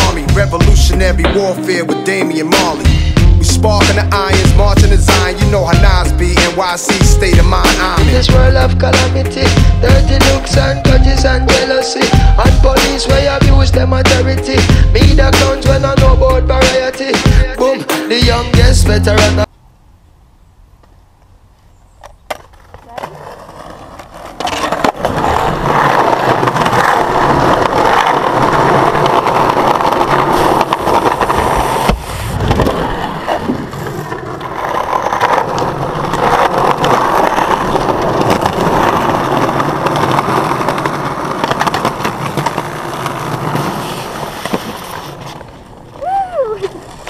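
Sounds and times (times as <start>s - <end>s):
skateboard wheels rolling on concrete: 0.0s - 47.0s.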